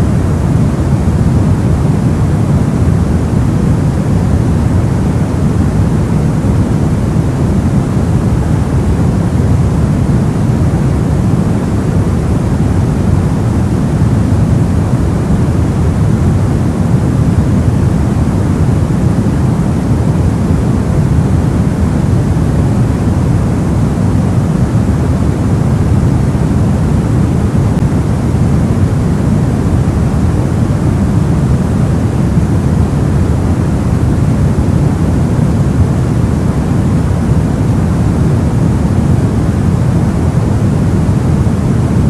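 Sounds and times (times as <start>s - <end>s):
deep steady synthetic noise: 0.0s - 42.0s.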